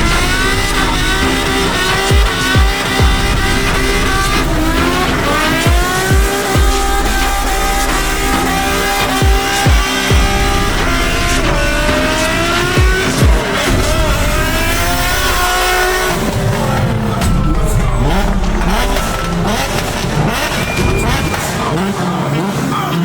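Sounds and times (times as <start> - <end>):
music with deep bass hits: 0.0 - 22.6
tyres squealing: 0.0 - 23.0
vehicle engines revving: 0.0 - 23.0.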